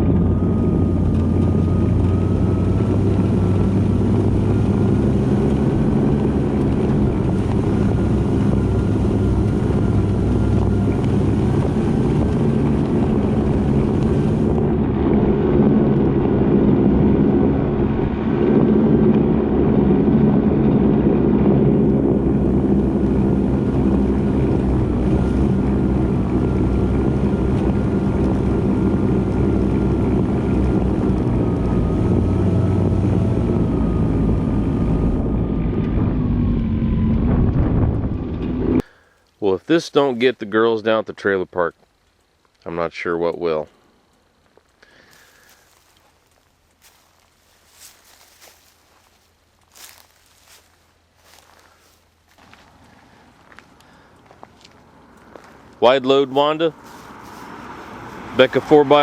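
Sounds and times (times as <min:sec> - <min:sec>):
small engine running: 0:00.0 - 0:38.8, 0:49.7 - 0:59.0
track and drivetrain noise: 0:00.0 - 0:59.0.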